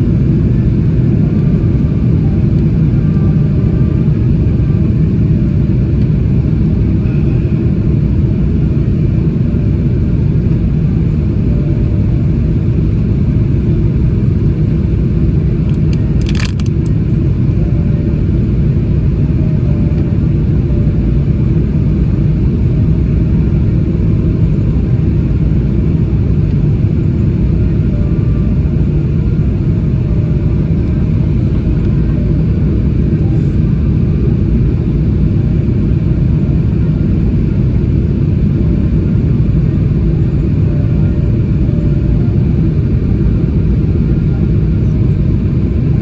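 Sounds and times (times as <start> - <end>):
airliner cabin rumble: 0.0 - 46.0.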